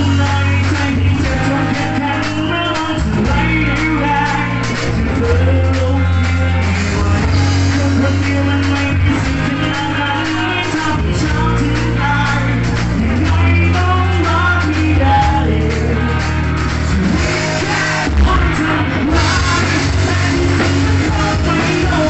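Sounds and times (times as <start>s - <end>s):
drum kit: 0.0s - 22.0s
electric guitar: 0.0s - 22.0s
person singing: 0.0s - 22.0s.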